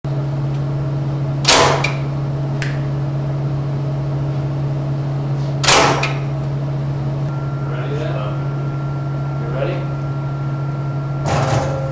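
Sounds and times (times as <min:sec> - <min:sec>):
low machine hum: 0:00.1 - 0:11.9.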